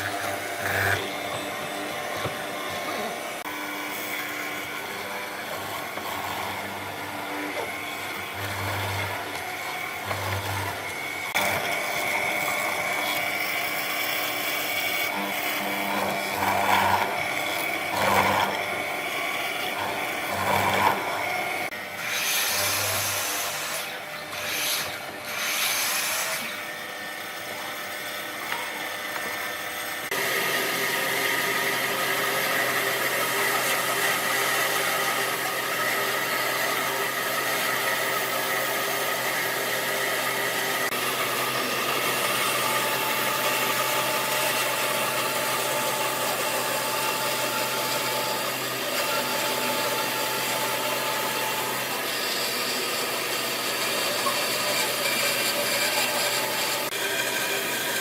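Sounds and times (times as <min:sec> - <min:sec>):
woodworking tools on wood: 0:00.0 - 0:58.0.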